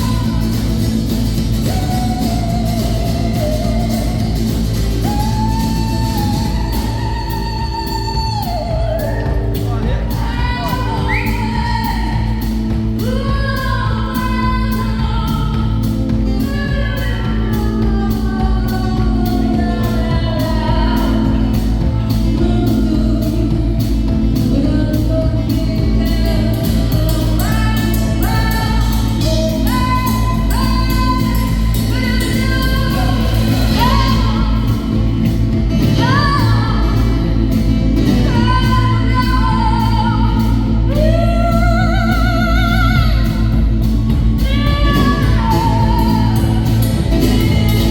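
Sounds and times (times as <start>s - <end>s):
live band music: 0.0s - 47.9s
person singing: 0.0s - 47.9s.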